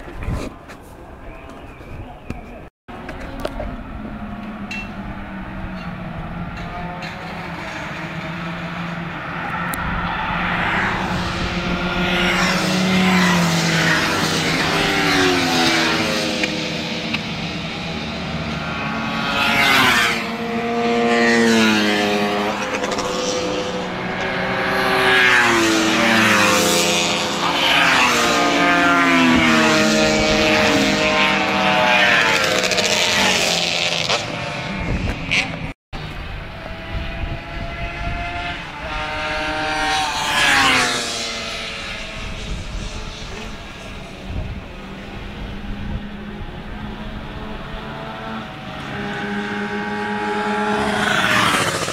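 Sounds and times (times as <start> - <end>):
racing motorcycles passing by: 3.0 - 51.9.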